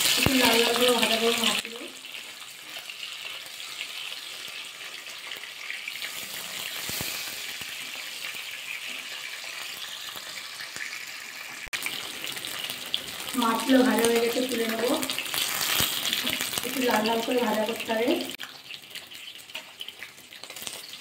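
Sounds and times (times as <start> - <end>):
fish frying in oil: 0.0 - 21.0.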